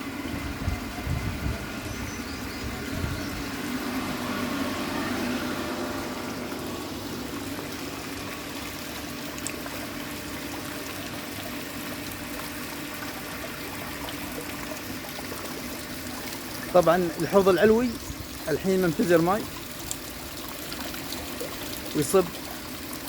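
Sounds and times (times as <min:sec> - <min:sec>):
water pouring into basin: 0:03.2 - 0:23.0.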